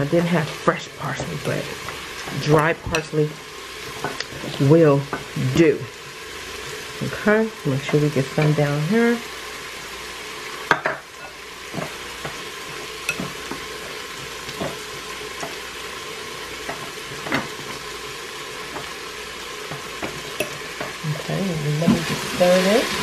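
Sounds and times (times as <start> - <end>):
onions sizzling: 0.0 - 23.0.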